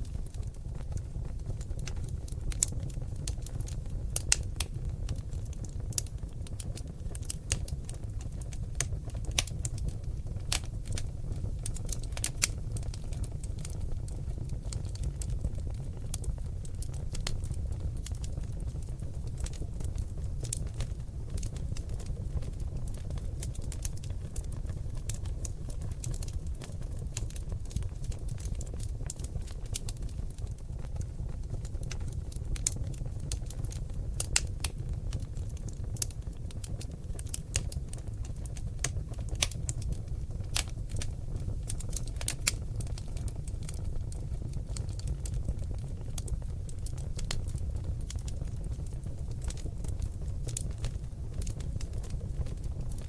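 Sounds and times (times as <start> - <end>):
logs crackling in a fireplace: 0.0 - 53.0.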